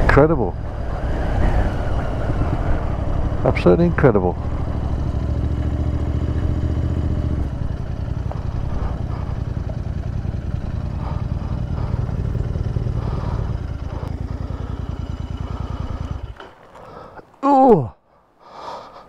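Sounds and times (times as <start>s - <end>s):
motorcycle engine idling: 0.0s - 17.2s.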